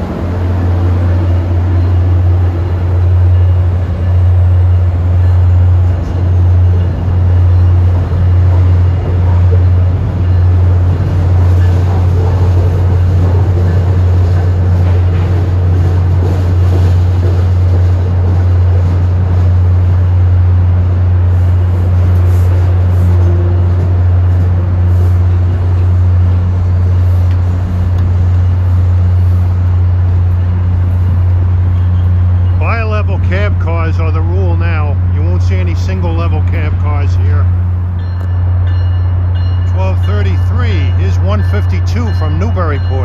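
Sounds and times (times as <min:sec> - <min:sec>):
engine low drone: 0:00.0 - 0:43.0.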